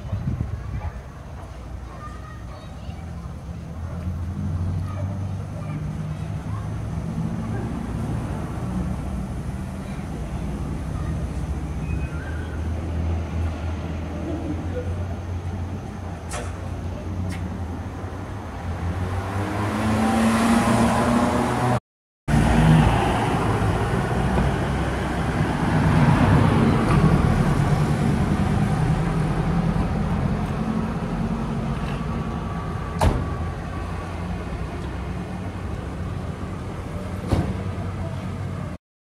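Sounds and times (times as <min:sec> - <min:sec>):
car engines passing: 0:00.0 - 0:38.8.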